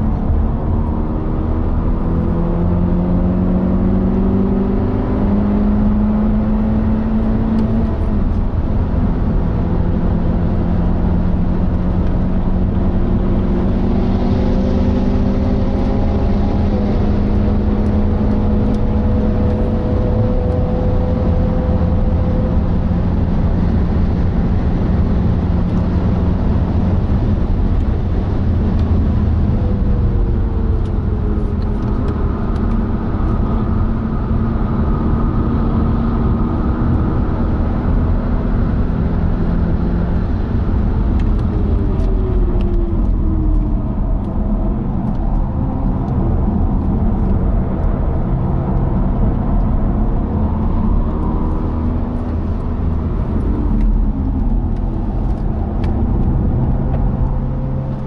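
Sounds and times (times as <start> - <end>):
car engine running hard: 0.0 - 58.0
wind and road noise: 0.0 - 58.0.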